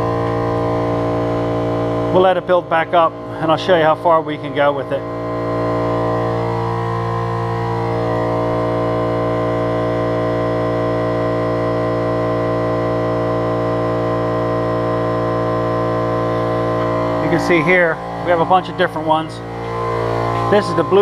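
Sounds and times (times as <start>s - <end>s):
air compressor humming: 0.0s - 21.0s.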